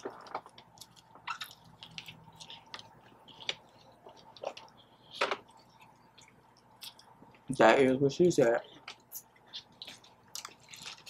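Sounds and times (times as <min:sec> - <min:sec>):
person chewing and crunching: 0:00.0 - 0:07.5, 0:08.9 - 0:11.0.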